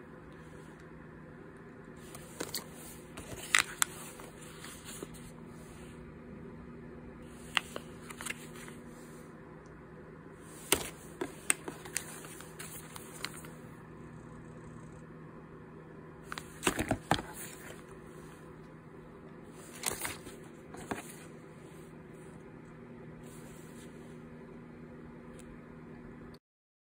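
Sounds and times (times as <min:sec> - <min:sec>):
steady low hum: 0:00.0 - 0:26.4.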